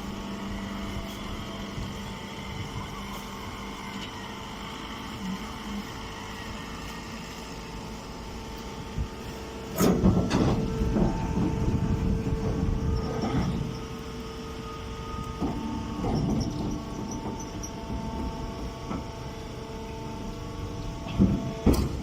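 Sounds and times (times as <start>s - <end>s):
hay baler machine hum: 0.0s - 22.0s.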